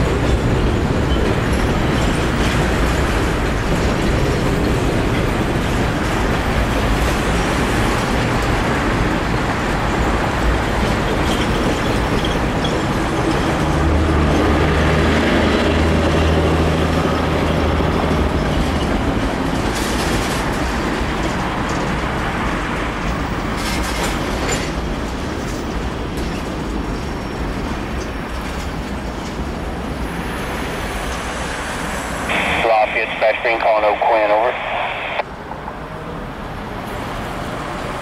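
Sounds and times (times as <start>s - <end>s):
freight train rumbling on bridge: 0.0s - 32.5s.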